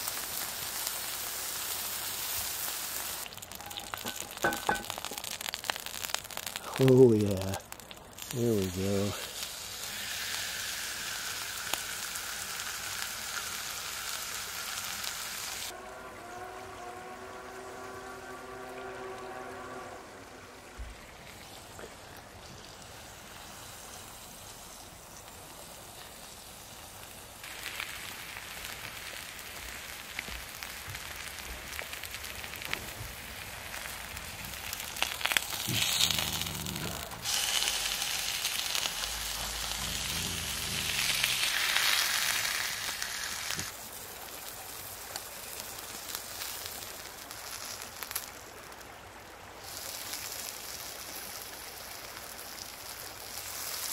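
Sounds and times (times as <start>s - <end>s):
steak sizzling in a pan: 0.0s - 15.7s, 21.2s - 48.8s, 49.6s - 53.9s.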